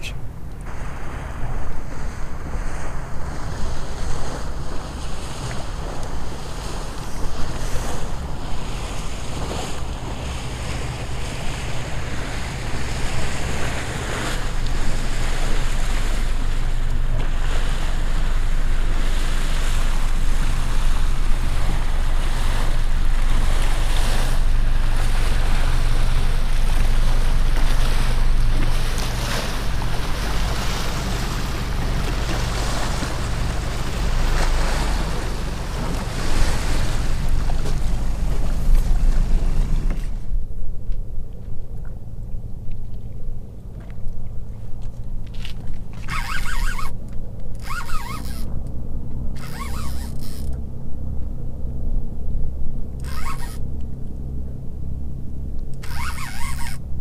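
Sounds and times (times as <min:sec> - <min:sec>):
low rumble: 0:00.0 - 0:46.1, 0:46.9 - 0:55.9
wind buffeting microphone: 0:00.0 - 0:46.8
waves lapping against boat hull: 0:00.0 - 0:57.0.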